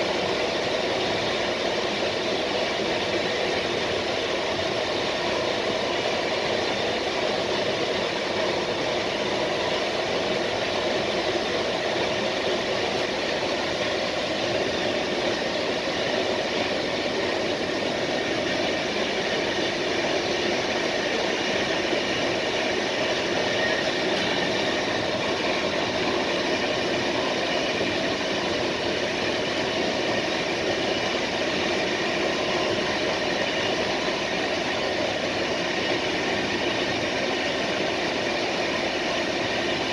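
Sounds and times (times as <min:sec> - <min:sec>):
train rolling on rails: 0:00.0 - 0:39.9.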